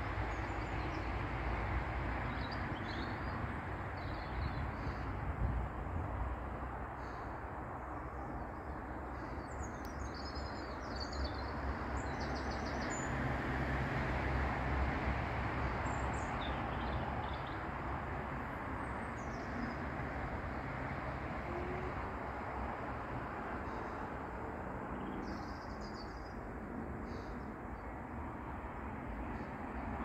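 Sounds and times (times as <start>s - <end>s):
distant jet aircraft rumble: 0.0s - 30.0s.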